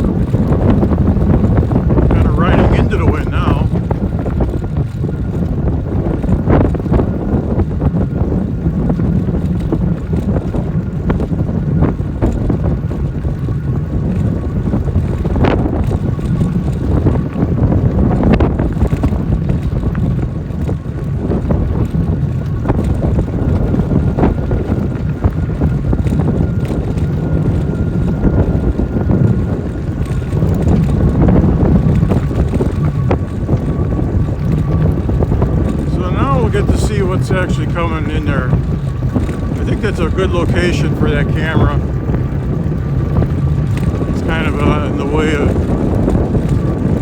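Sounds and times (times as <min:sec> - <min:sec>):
wind noise on microphone: 0:00.0 - 0:47.0.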